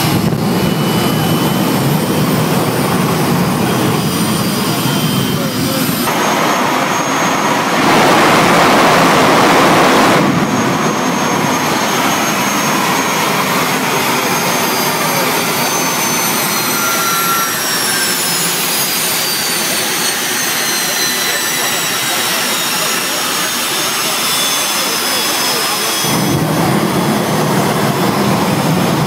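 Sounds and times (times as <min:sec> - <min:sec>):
jet engine high whine: 0:00.0 - 0:29.0
jet engine running loudly: 0:00.0 - 0:29.0.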